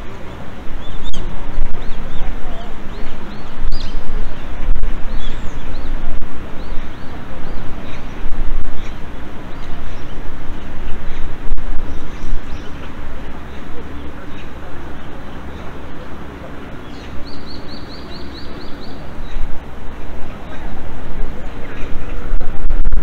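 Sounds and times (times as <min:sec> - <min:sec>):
birds chirping: 0:00.0 - 0:22.7
low outdoor rumble: 0:00.0 - 0:23.0.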